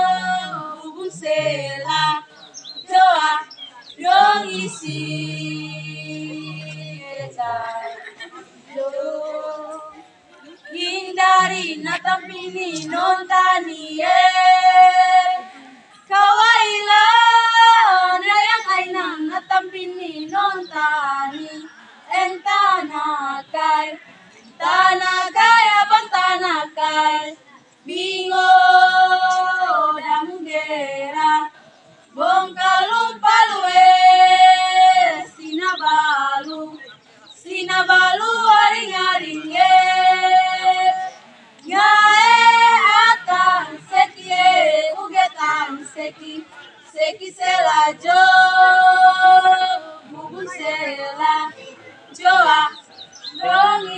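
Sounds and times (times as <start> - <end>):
women singing unaccompanied: 0.0 - 53.9.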